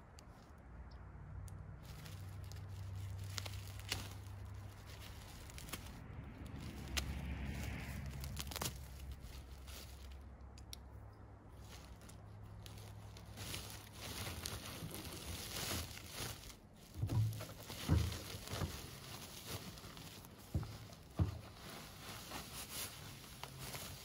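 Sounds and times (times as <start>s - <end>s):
plastic sack rustling: 1.8s - 10.3s, 11.6s - 24.0s.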